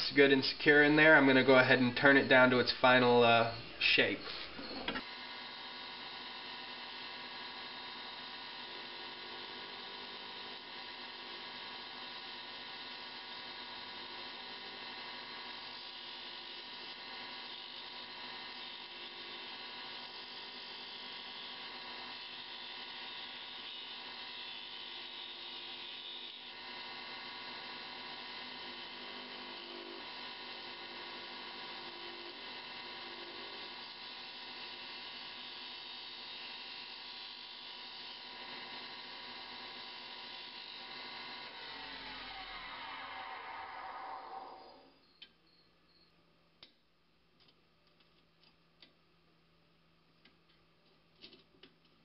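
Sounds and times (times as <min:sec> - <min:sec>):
turning tool cutting wood: 0:00.0 - 0:45.0
wood lathe motor whine: 0:00.0 - 0:45.2.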